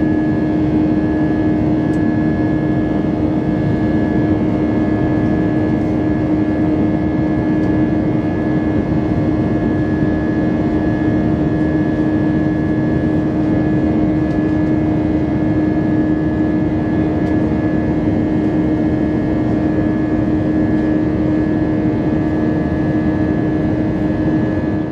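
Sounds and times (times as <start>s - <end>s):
airplane cabin engine drone: 0.0s - 24.9s.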